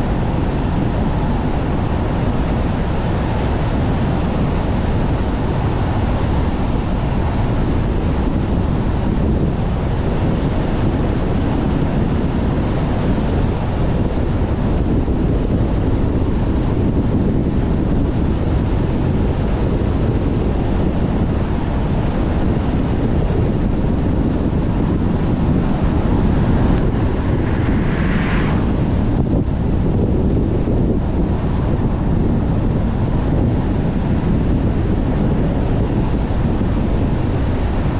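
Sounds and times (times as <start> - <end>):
wind buffeting a moving car: 0.0 - 37.9.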